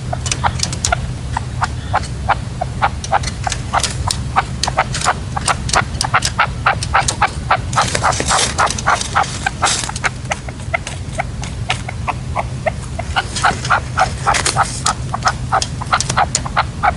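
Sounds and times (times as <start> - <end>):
partridges calling: 0.0 - 16.9
steady low hum: 0.0 - 16.9.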